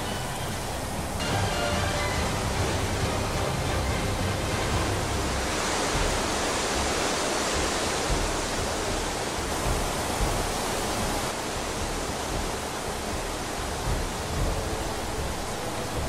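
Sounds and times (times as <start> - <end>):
floodwater rushing over a ledge: 0.0 - 16.0.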